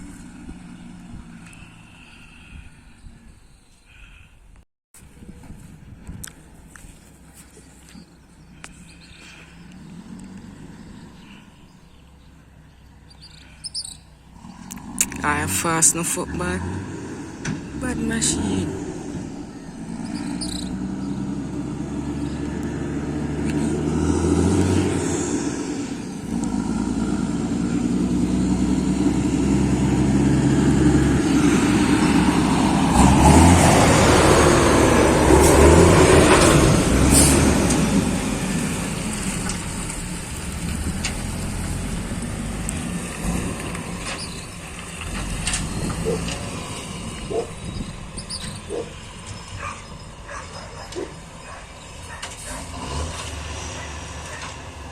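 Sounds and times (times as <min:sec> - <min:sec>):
diesel truck driving past: 0:00.0 - 0:04.3, 0:05.0 - 0:54.9.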